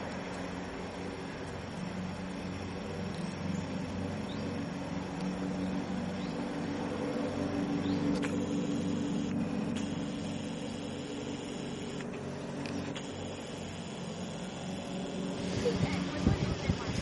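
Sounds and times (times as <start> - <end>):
motor humming: 1.6 - 17.0.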